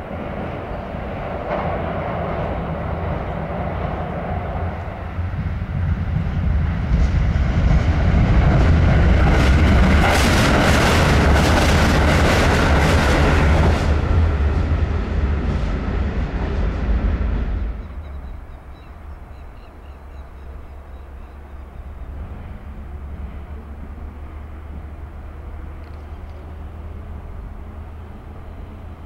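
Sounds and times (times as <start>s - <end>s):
diesel railcar engine rumble: 0.0s - 29.0s.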